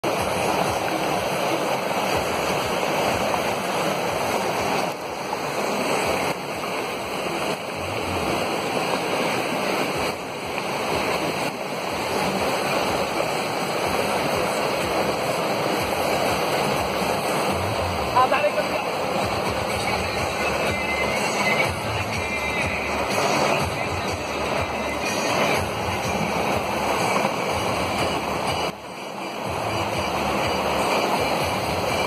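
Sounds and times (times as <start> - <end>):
floodwater rushing: 0.0 - 32.0
heavy rain: 0.0 - 32.0.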